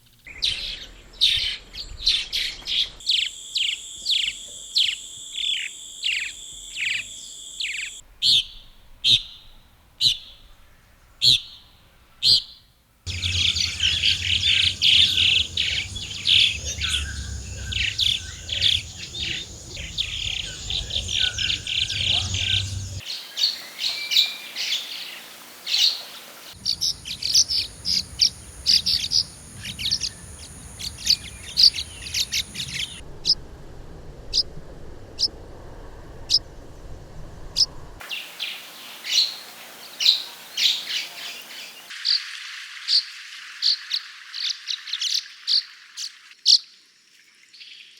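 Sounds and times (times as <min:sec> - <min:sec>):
swallows twittering chirps: 0:00.3 - 0:09.5, 0:13.1 - 0:33.0, 0:37.6 - 0:47.9.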